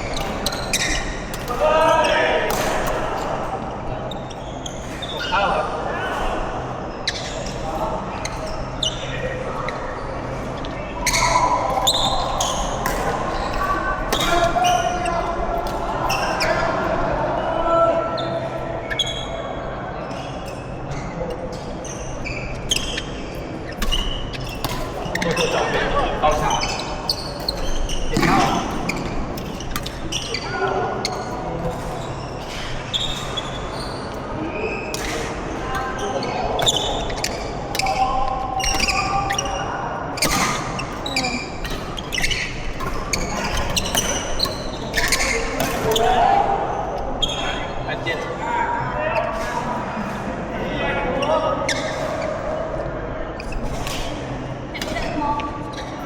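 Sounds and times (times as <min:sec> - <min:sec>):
shoes squeaking on court floor: 0:00.0 - 0:05.5, 0:06.1 - 0:16.8, 0:18.2 - 0:19.4, 0:20.1 - 0:46.3, 0:51.2 - 0:52.8, 0:53.4 - 0:56.0.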